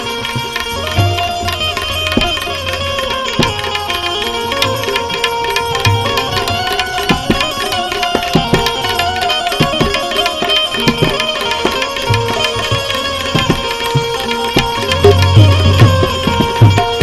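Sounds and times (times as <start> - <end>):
sustained melody notes: 0.0 - 17.0
tabla strokes: 0.0 - 17.0.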